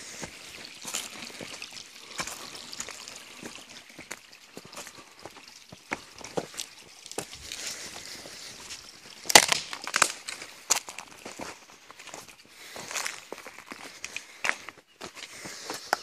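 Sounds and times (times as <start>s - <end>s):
footsteps on stones and leaves: 0.0s - 16.0s
stream trickling over rocks: 0.0s - 16.0s.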